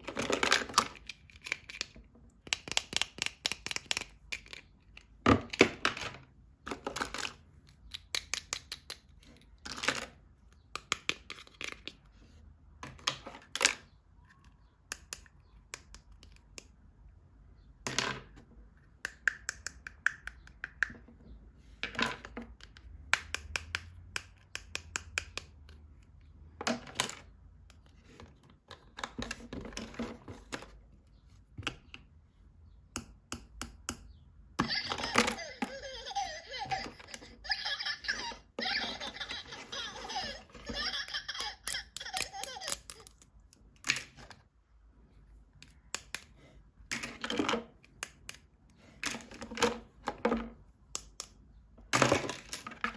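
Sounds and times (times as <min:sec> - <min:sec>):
plastic toys tapping and clicking: 0:00.0 - 0:12.1, 0:12.8 - 0:17.1, 0:17.8 - 0:30.8, 0:32.8 - 0:44.5, 0:45.5 - 0:52.9.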